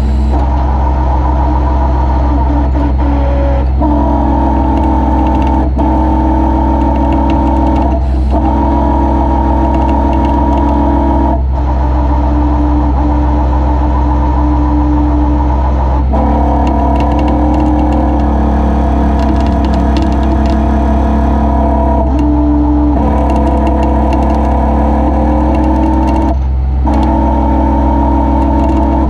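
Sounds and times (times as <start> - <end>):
hydraulic drone: 0.0 - 29.0
truck engine low hum: 0.0 - 29.0.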